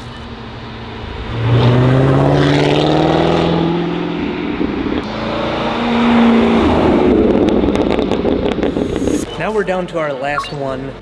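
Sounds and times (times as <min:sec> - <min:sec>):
car engine accelerating: 0:00.3 - 0:09.3.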